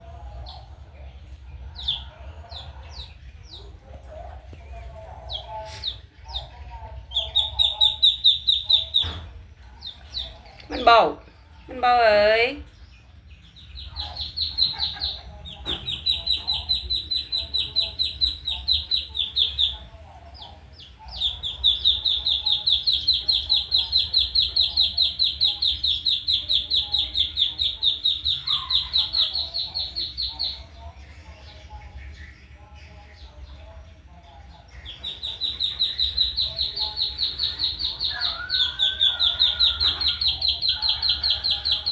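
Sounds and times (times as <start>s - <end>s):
duckling peeping: 0.1s - 11.1s, 11.8s - 33.6s, 34.3s - 41.9s.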